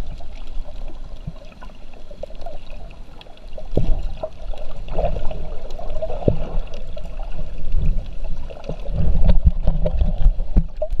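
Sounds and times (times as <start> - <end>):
muffled underwater rumble: 0.0 - 11.0.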